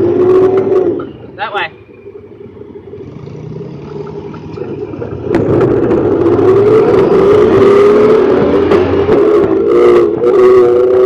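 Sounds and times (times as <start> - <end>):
side-by-side engine speeding up: 0.0 - 11.0.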